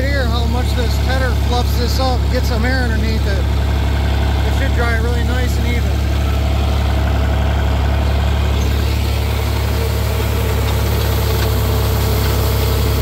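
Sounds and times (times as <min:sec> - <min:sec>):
tractor engine humming: 0:00.0 - 0:13.0.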